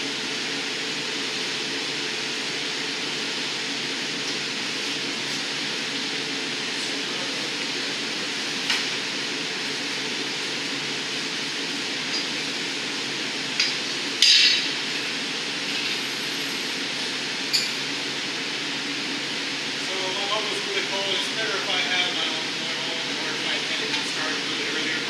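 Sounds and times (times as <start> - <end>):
steady burner roar: 0.0 - 25.0.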